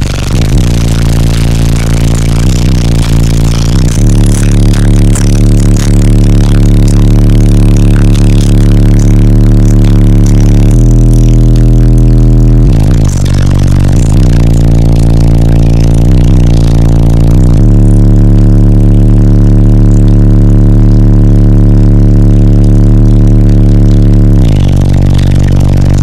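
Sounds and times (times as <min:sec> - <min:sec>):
subwoofers playing deep bass: 0:00.0 - 0:26.0.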